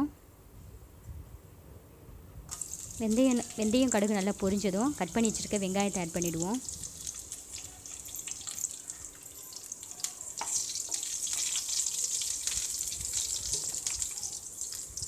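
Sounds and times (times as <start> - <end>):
onion sizzling in hot oil: 2.5 - 15.0.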